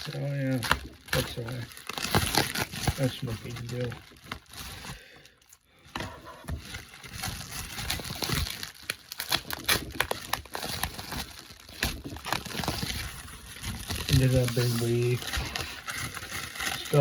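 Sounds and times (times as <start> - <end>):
packing material crinkling: 0.0 - 17.0.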